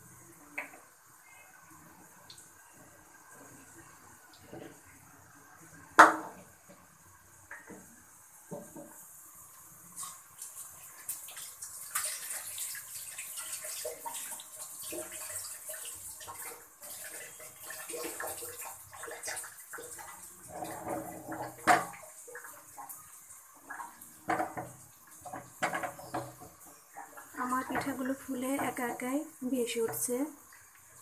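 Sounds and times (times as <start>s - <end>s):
batter deep-frying in oil: 0.0s - 31.0s.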